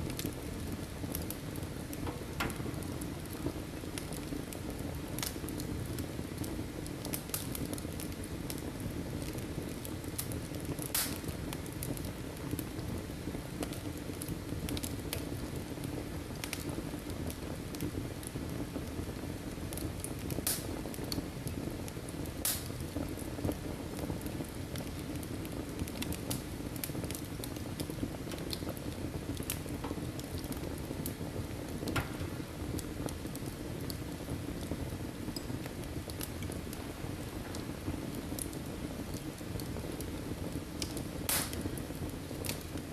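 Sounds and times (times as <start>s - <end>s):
fire flames burning: 0.0s - 42.9s
logs crackling and popping: 0.0s - 42.9s.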